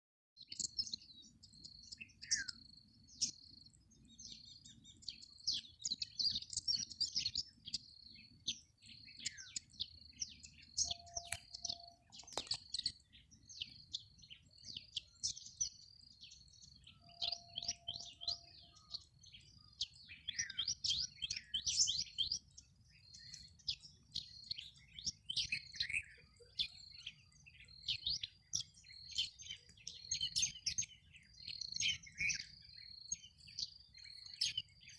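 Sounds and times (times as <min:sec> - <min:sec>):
birds chirping: 0:00.4 - 0:34.9.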